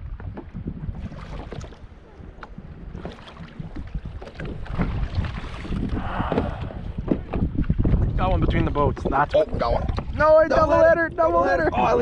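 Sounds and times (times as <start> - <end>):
water slapping against kayak hull: 0.0 - 11.4
wind rumbling on microphone: 0.0 - 12.0.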